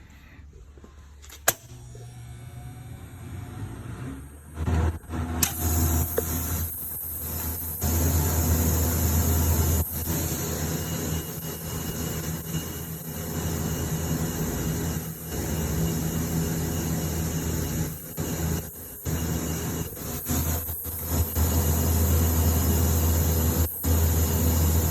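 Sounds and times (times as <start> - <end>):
electric arc buzzing hum: 1.7 - 24.9.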